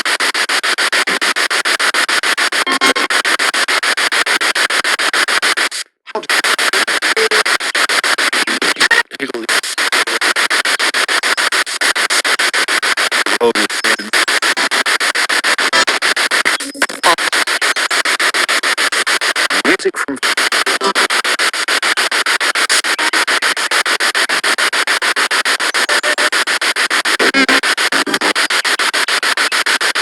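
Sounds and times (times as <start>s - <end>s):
pulsing radio static hiss: 0.0s - 30.0s
snatches of radio sound: 0.0s - 30.0s.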